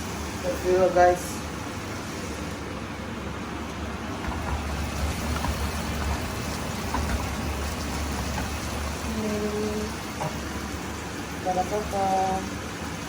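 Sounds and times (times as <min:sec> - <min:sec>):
food sizzling in hot oil: 0:00.0 - 0:02.7, 0:04.1 - 0:13.0.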